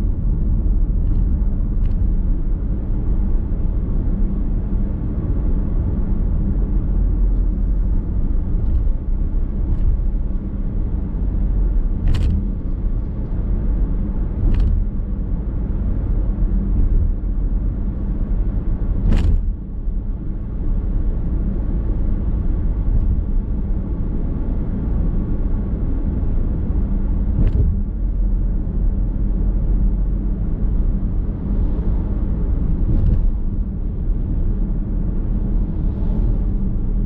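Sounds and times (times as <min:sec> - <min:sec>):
car road rumble and tyre noise: 0:00.0 - 0:37.0.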